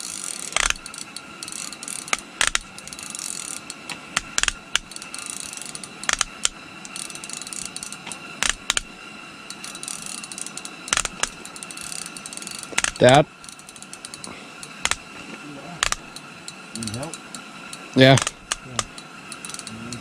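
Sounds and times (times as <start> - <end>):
fishing reel ratcheting and clicking: 0.0 - 15.1, 15.8 - 20.0.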